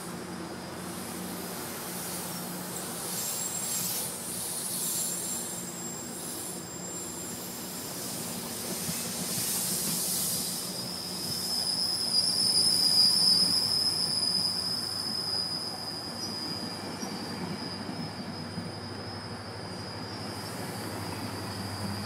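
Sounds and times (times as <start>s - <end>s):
high steady wheel squeal: 0.0s - 22.0s
train coaches rumbling past: 0.0s - 22.0s.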